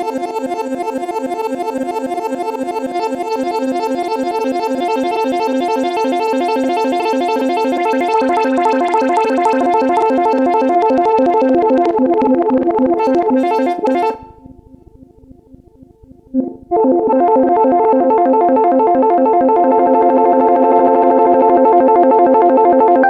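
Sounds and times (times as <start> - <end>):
synthesizer plucked notes: 0.0 - 23.0.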